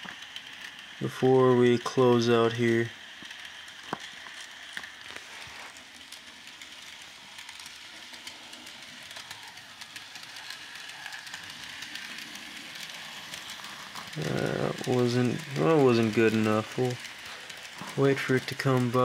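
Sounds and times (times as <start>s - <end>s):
model train motor whirring: 0.0s - 19.0s
wheels clicking over rails: 0.0s - 19.0s.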